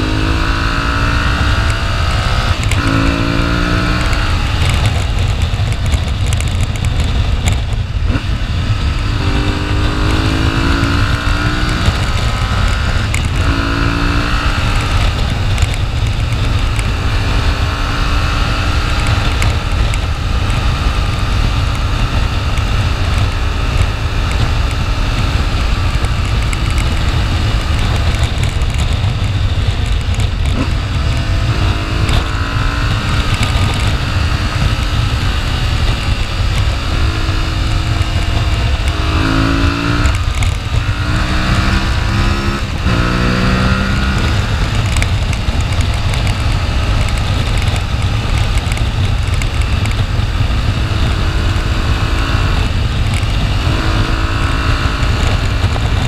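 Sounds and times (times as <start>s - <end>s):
low wind rumble: 0.0s - 56.0s
motorcycle engine running: 0.0s - 56.0s.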